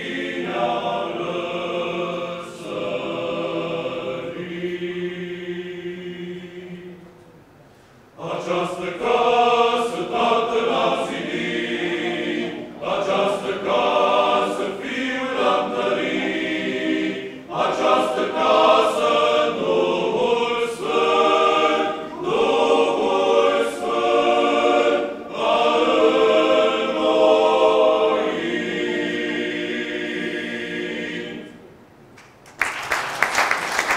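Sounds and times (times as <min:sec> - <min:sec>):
men's choir singing a cappella: 0:00.0 - 0:07.4, 0:08.2 - 0:31.7.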